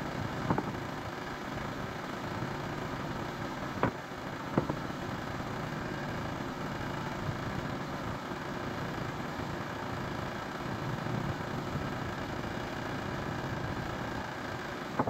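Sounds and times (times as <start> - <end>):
sawmill engine idling: 0.0 - 15.0.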